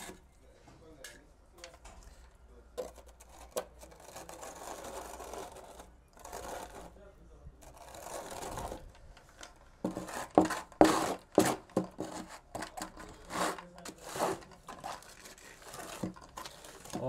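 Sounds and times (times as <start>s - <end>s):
hand float scraping wet concrete: 0.0s - 0.3s, 2.8s - 7.0s, 7.6s - 17.0s.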